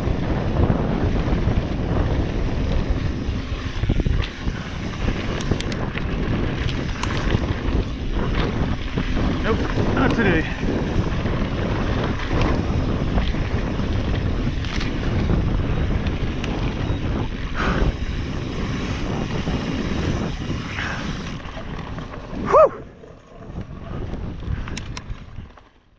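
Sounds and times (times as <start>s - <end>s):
wind buffeting microphone: 0.0s - 25.8s
bike tyres rattling over rocky trail: 0.0s - 25.9s.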